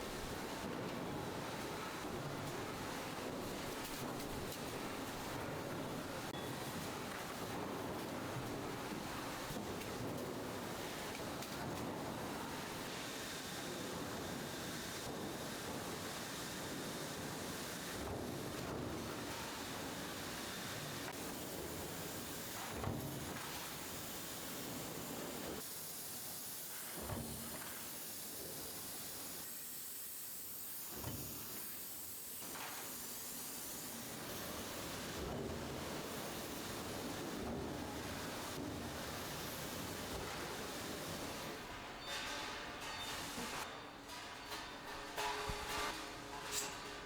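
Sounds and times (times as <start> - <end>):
steady factory hiss: 0.0 - 47.0.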